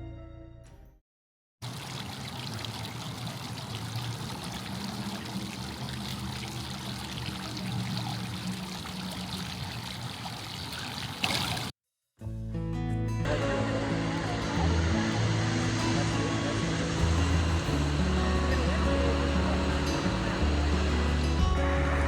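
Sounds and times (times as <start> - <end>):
flowing water rushing: 1.6 - 11.7, 13.3 - 22.0.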